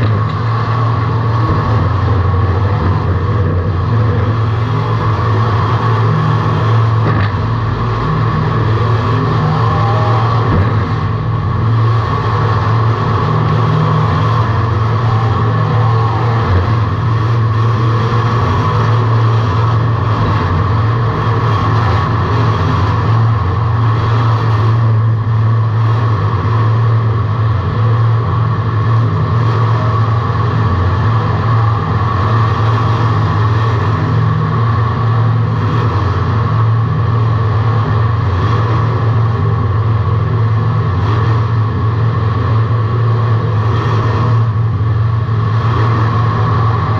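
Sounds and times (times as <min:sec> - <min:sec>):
car engine droning inside cabin: 0:00.0 - 0:46.9.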